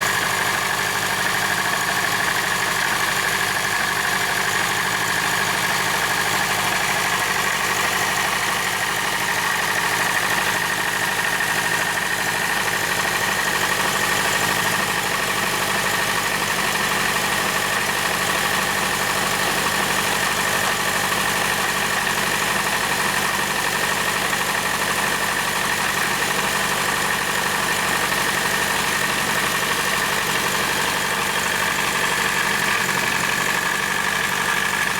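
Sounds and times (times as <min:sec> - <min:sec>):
model engine running: 0:00.0 - 0:34.9.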